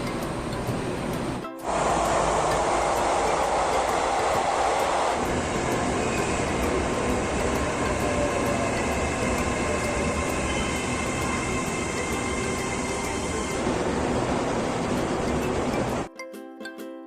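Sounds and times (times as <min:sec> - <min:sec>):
train rail rumble: 0:00.0 - 0:16.1.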